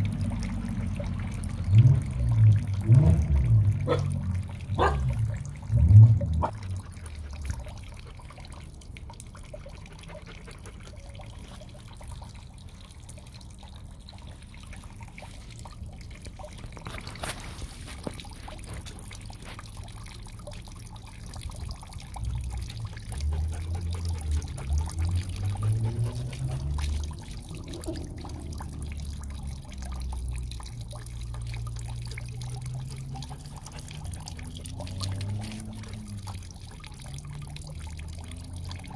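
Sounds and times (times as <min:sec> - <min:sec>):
water trickling into bowl: 0:00.0 - 0:38.9.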